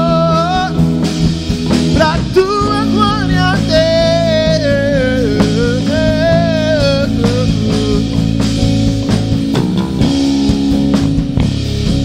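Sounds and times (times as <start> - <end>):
bass guitar: 0.0 - 12.0
drums: 0.0 - 12.0
electric guitar: 0.0 - 12.0
live rock band music: 0.0 - 12.0.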